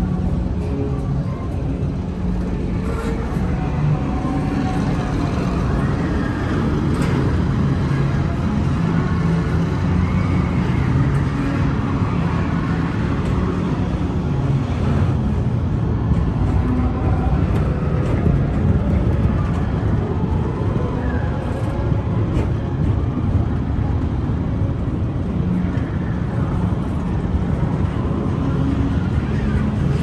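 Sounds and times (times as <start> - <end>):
ride car rumbling on track: 0.0 - 30.0.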